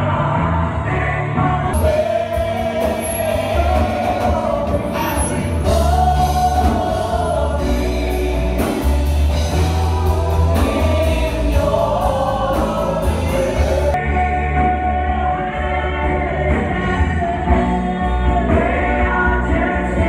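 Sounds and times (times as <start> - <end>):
band with heavy bass: 0.0 - 20.0
voices singing together: 0.0 - 20.0.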